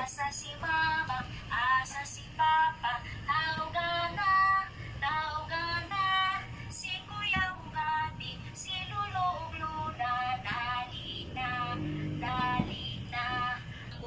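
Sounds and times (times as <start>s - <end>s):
light background music: 0.0s - 14.0s
woman singing: 0.0s - 14.0s.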